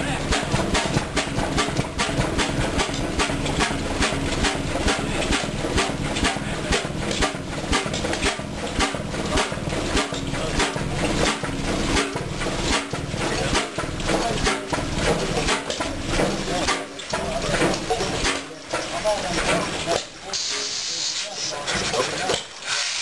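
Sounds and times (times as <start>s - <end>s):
diesel engine knocking steadily: 0.0s - 20.3s.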